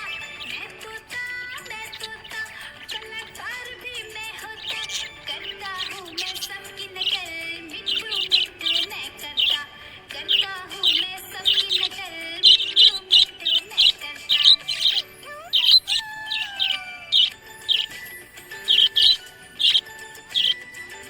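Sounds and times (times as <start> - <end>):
budgerigars chirping: 0.0 - 21.0
music with held notes: 0.0 - 21.0.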